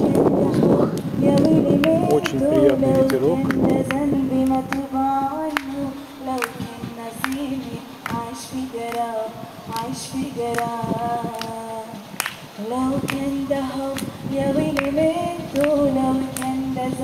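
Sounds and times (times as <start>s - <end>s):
backing track with light beat: 0.0s - 17.0s
woman singing slow song: 0.0s - 17.0s.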